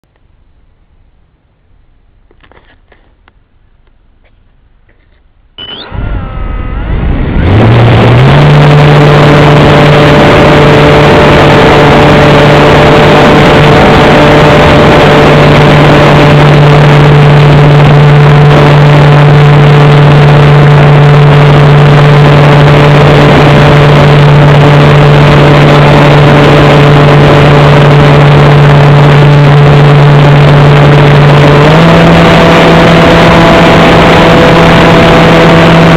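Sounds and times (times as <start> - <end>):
electric motor and propeller whirring: 5.6 - 35.9.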